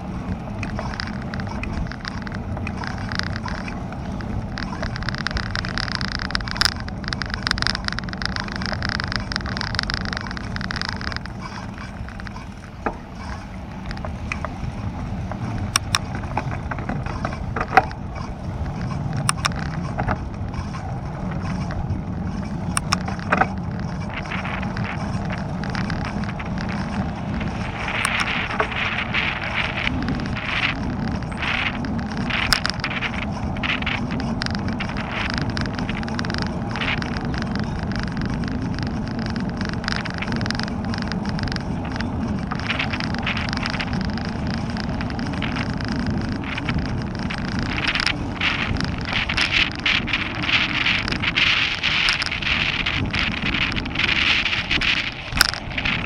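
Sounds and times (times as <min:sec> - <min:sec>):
bike rattling over bumps: 0:00.0 - 0:56.0
wind and tyre noise: 0:00.0 - 0:56.0.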